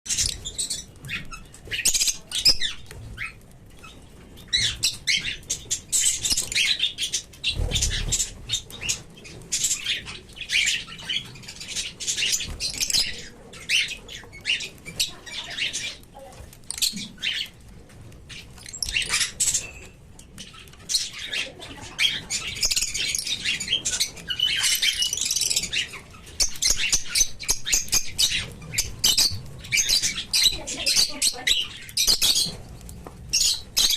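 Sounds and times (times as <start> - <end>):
lovebird chirping and squeaking: 0.1 - 17.7, 18.3 - 33.9.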